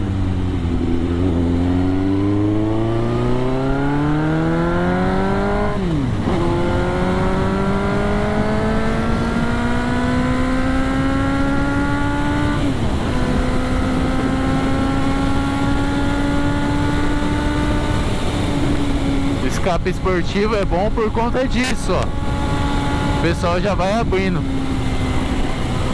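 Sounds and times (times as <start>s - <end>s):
motorcycle accelerating hard: 0.0s - 25.9s.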